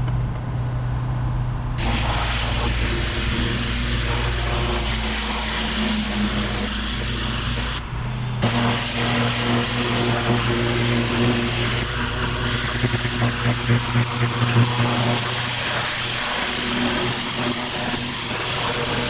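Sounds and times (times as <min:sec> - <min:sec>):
high-pressure water jet spraying: 0:01.8 - 0:19.0
pressure washer engine running: 0:01.8 - 0:19.0.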